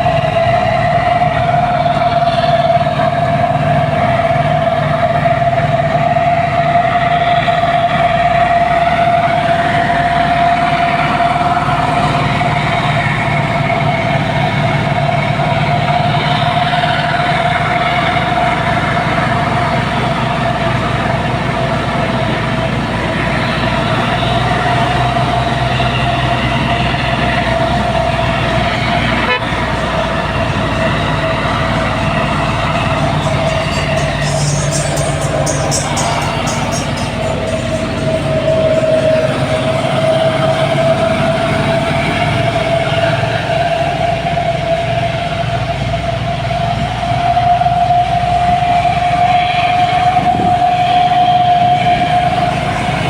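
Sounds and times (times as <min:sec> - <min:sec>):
diesel engine drone: 0:00.0 - 0:53.0
high machine whine: 0:00.0 - 0:53.0.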